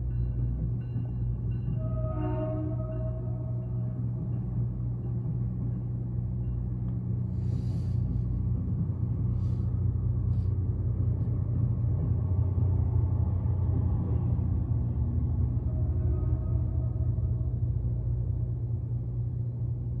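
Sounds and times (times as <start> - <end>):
diesel locomotive rumbling: 0.0 - 20.0.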